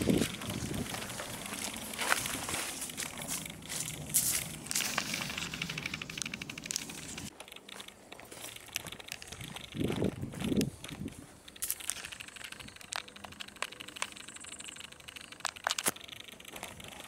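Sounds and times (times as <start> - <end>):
shrubs rustling and crackling: 0.0 - 17.0.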